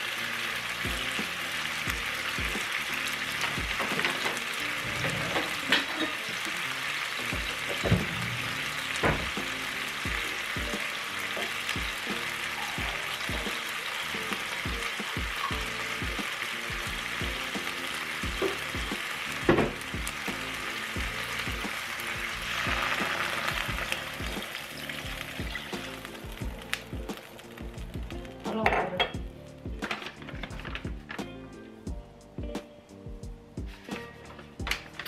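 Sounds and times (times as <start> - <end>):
food sizzling in a frying pan: 0.0 - 33.0
background music with beat: 0.0 - 35.0.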